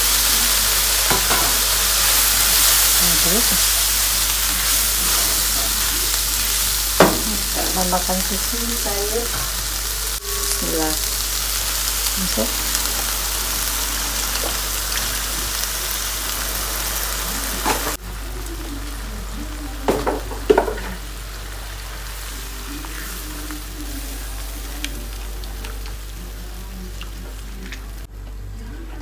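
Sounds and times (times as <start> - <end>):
milk sizzling in hot wok: 0.0 - 28.1.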